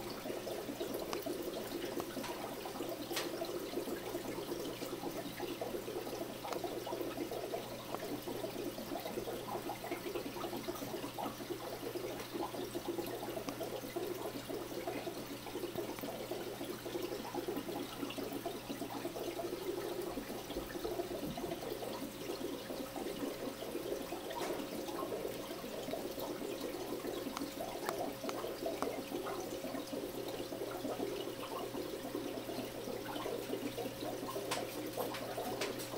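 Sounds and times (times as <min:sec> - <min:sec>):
aquarium air bubbles fizzing: 0:00.0 - 0:35.9.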